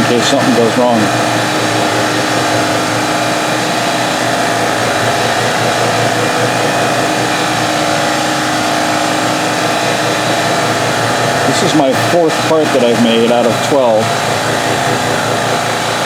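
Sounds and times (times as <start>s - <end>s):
milling machine spindle whine: 0.0s - 16.0s.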